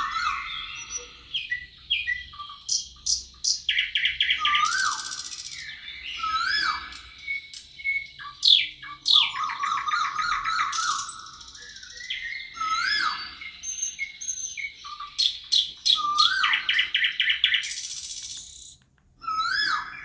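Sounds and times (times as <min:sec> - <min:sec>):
whistled bird note: 0:00.0 - 0:02.6, 0:03.7 - 0:20.0
birds chattering trills: 0:00.0 - 0:18.8
high buzzy birdsong: 0:00.0 - 0:20.0.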